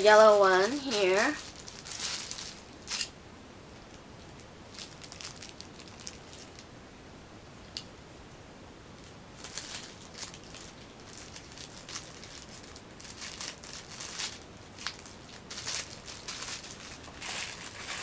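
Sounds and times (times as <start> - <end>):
packaging crinkling and rustling: 0.0 - 3.1, 4.2 - 6.7, 9.0 - 18.0.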